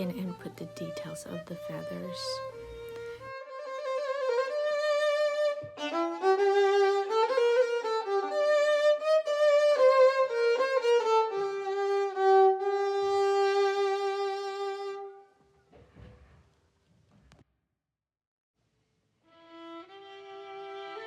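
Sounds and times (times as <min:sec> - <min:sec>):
slow violin melody: 0:00.0 - 0:15.4, 0:19.2 - 0:21.0.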